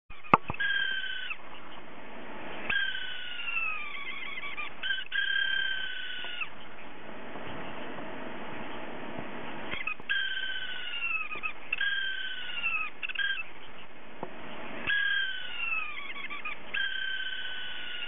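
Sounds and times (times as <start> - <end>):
hard disk drive squealing: 0.1 - 1.8, 2.6 - 6.7, 8.4 - 13.5, 14.4 - 18.0.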